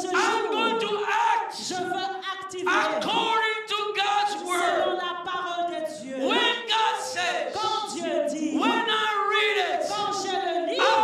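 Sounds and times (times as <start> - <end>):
congregation praying aloud: 0.0 - 11.0.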